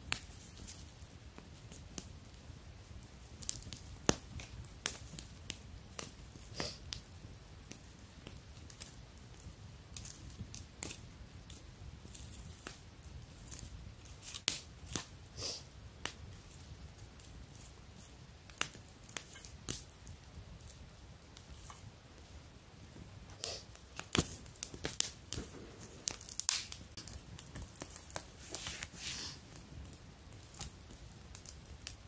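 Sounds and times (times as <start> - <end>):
campfire crackling: 0.0 - 32.0
fire popping: 0.0 - 32.0.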